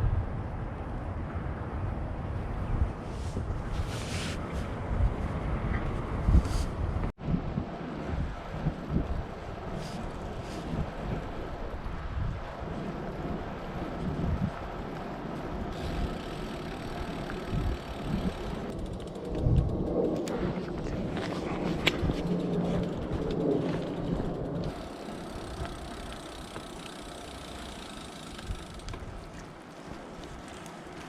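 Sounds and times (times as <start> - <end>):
road noise: 0.0 - 31.0.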